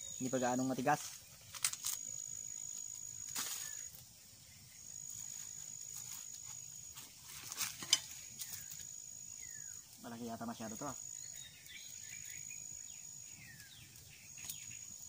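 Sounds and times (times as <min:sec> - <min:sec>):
insect high-pitched trill: 0:00.0 - 0:15.0.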